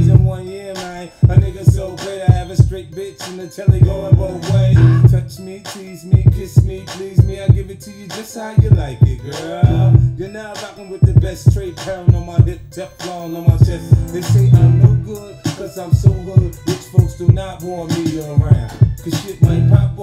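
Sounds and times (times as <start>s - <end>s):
rapping over a heavy beat: 0.0s - 20.0s.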